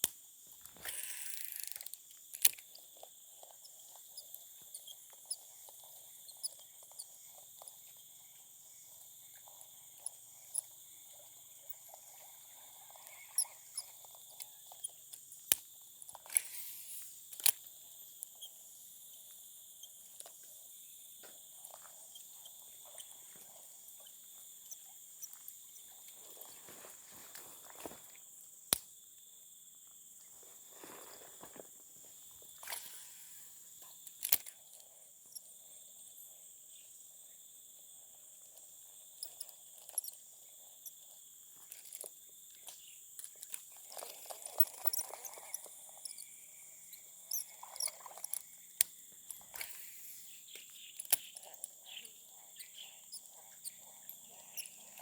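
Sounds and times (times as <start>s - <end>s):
insects trilling: 0.1s - 55.0s.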